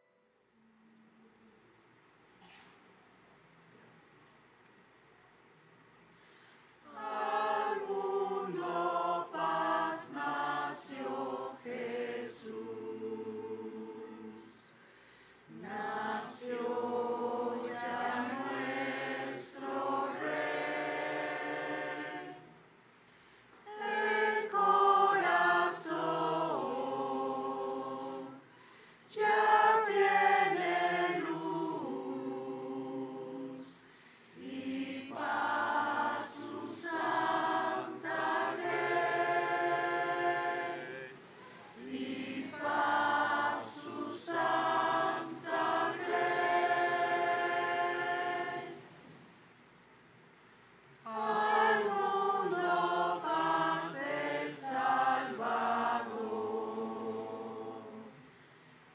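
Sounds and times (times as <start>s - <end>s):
choir singing: 6.8s - 14.7s, 15.5s - 22.7s, 23.6s - 28.5s, 29.1s - 49.2s, 51.0s - 58.3s.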